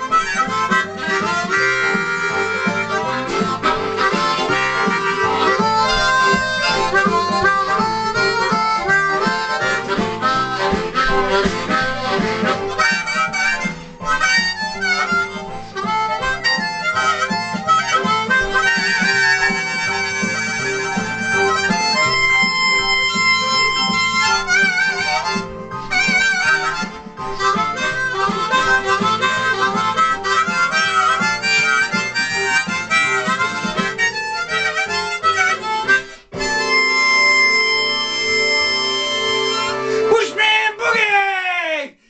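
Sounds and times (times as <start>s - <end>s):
harmonica boogie tune: 0.0s - 42.0s.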